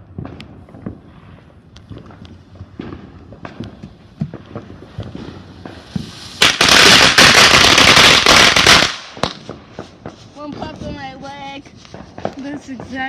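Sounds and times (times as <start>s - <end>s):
firework crackling and popping: 0.0s - 13.0s.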